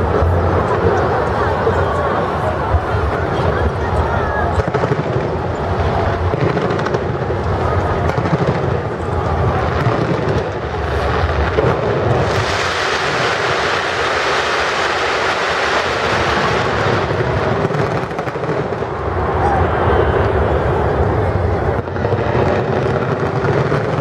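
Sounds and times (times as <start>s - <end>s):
fireworks rumbling bursts: 0.0s - 24.0s
fireworks crackling hiss: 2.8s - 19.7s, 20.3s - 24.0s.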